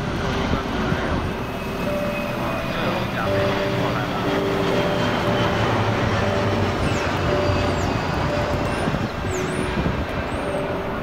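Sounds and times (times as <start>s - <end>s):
jet airliner flying overhead: 0.0s - 11.0s.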